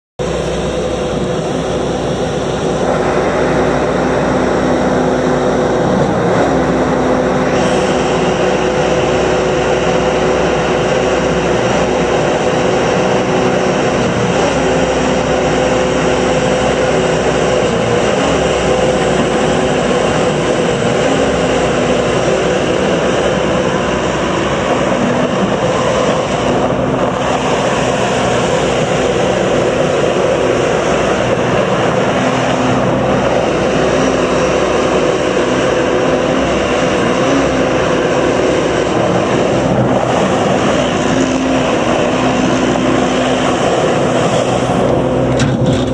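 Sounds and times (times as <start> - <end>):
diesel loader engine humming: 0.2 - 45.9.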